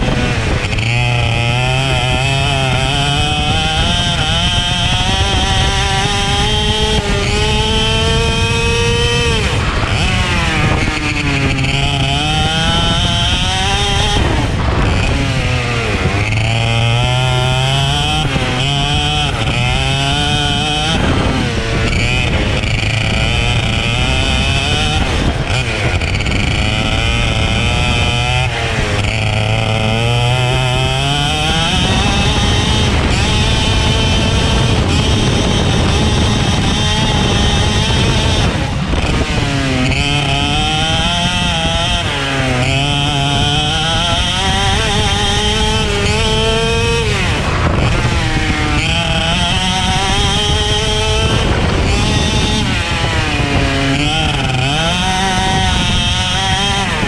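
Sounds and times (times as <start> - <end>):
kart engine accelerating: 0.0 - 57.0.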